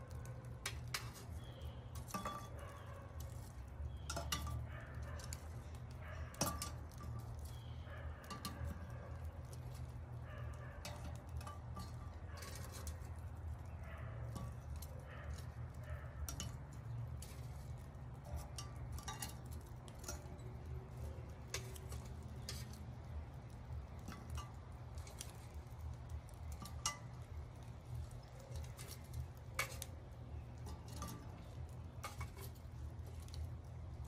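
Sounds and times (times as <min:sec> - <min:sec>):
clinks of tongs and charcoal: 0:00.1 - 0:34.0.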